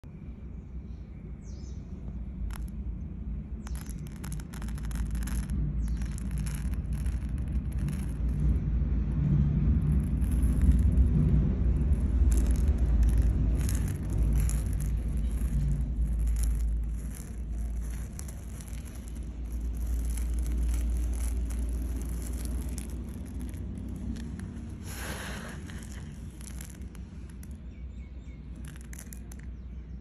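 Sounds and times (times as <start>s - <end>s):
low rumble: 0.2s - 30.0s
rice grains trickling off a hand: 3.6s - 29.6s.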